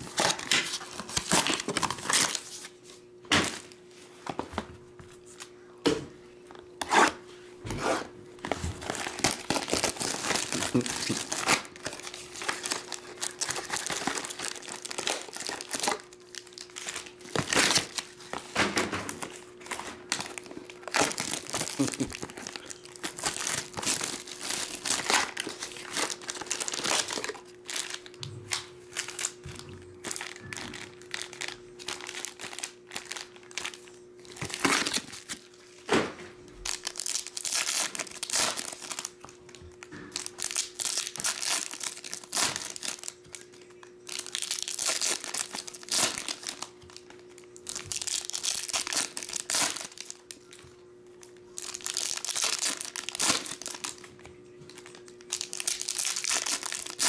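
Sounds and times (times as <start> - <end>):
foil packs tearing and rustling: 0.0 - 4.4, 8.4 - 35.6, 36.6 - 50.6, 51.2 - 57.0
plastic wrapping crinkling: 0.0 - 5.5, 8.4 - 35.8, 36.6 - 57.0.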